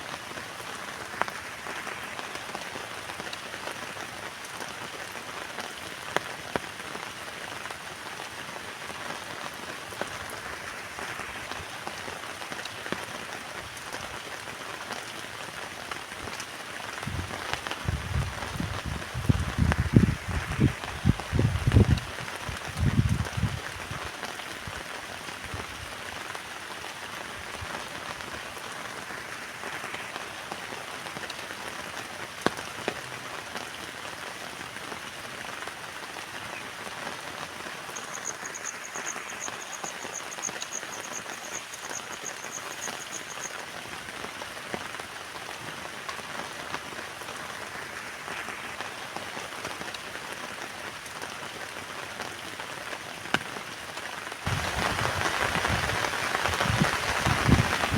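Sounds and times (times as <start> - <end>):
rain pattering on a tent: 0.0 - 57.9.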